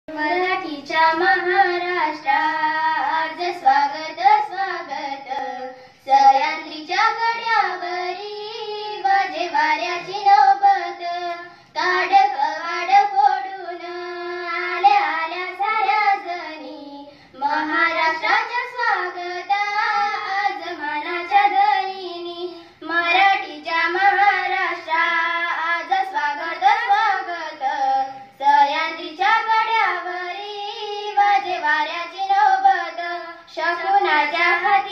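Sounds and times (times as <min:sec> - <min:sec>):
girls singing into a microphone: 0:00.1 - 0:34.9.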